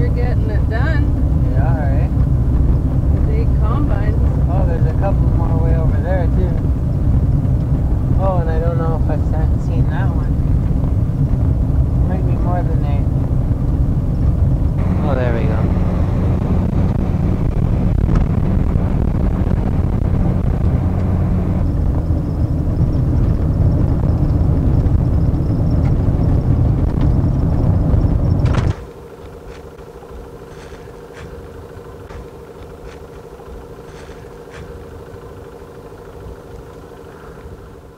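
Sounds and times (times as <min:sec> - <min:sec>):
faint high whine: 0:00.0 - 0:37.9
vehicle rumble: 0:00.0 - 0:37.9.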